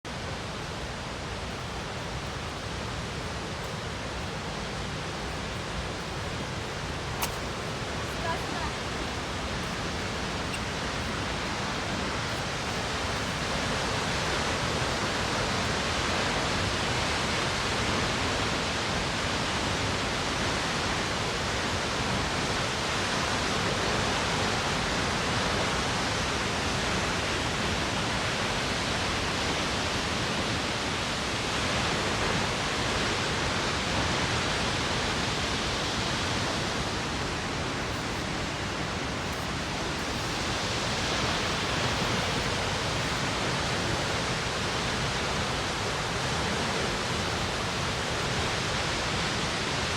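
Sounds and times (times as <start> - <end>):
waterfall rushing: 0.1 - 49.9.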